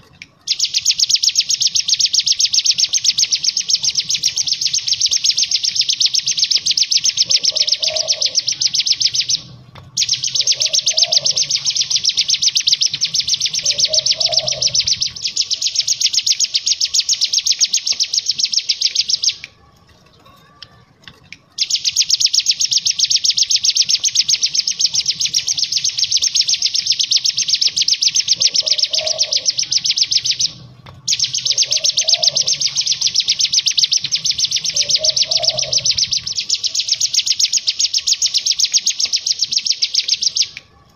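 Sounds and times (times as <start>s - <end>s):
bird singing rapid trill: 0.0s - 19.5s, 21.5s - 40.6s.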